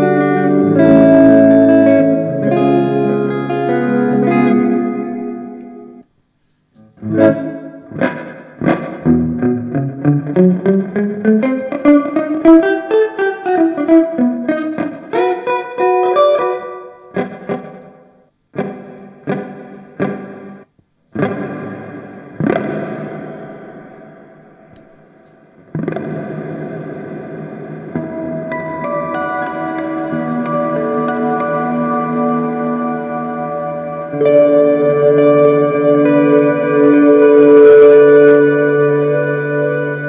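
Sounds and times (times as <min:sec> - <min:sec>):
electric guitar with reverb: 0:00.0 - 0:06.1, 0:06.9 - 0:40.0.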